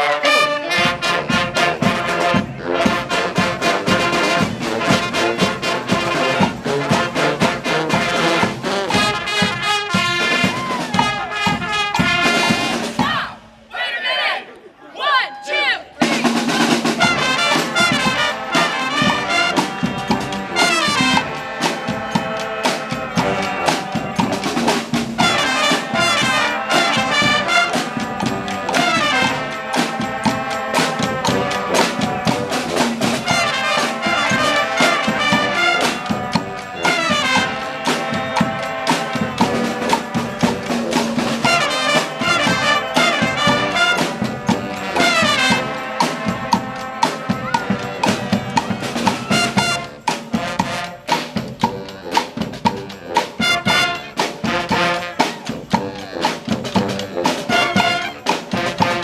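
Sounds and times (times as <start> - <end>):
brass horns playing melody: 0.0 - 13.2, 16.1 - 59.0.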